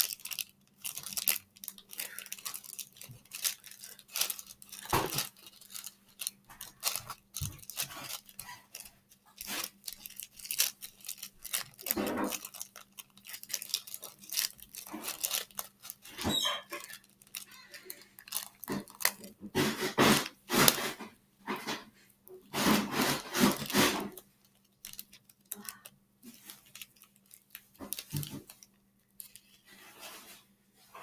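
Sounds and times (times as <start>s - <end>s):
slime crunching and crackling: 0.0s - 29.8s
slime squelching: 0.0s - 30.0s.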